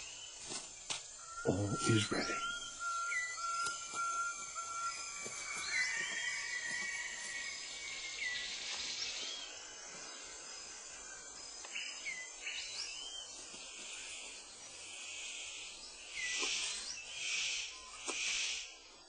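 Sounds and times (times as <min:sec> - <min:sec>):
high buzzing of insects: 0:00.0 - 0:19.0
whistled bird calls: 0:01.1 - 0:14.3, 0:15.0 - 0:18.9.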